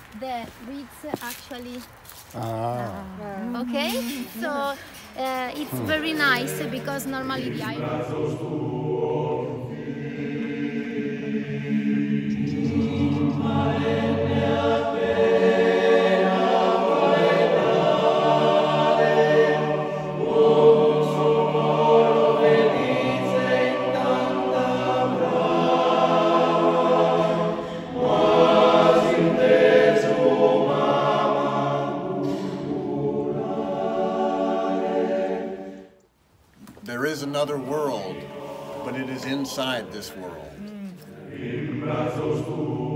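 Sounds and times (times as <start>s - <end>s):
choir singing: 3.5s - 36.0s, 37.0s - 42.9s.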